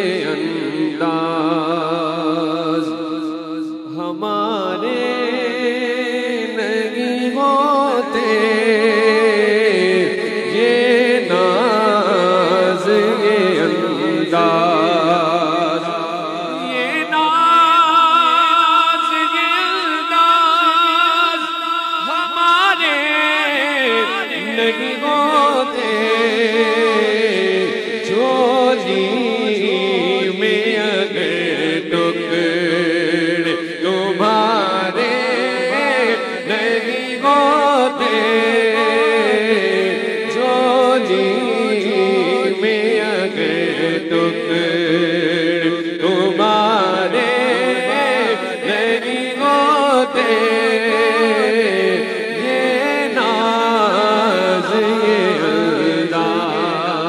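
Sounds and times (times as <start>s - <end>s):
man singing devotional song: 0.0s - 57.0s.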